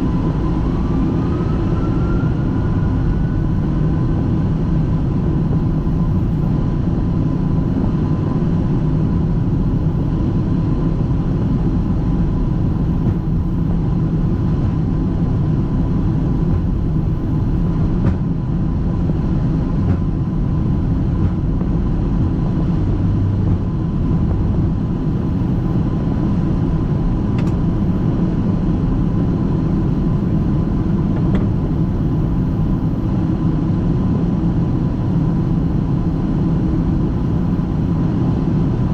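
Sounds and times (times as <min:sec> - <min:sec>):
aircraft engine low rumble: 0:00.0 - 0:38.9.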